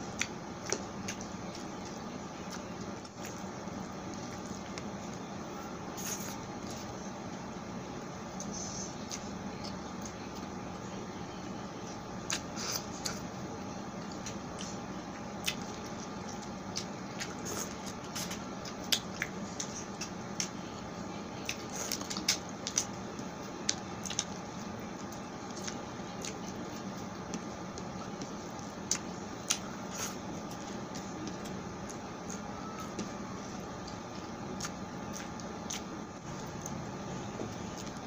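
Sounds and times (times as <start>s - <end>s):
person chewing: 0.0s - 5.2s, 5.9s - 7.0s, 12.2s - 13.3s, 14.0s - 20.6s, 21.4s - 38.0s.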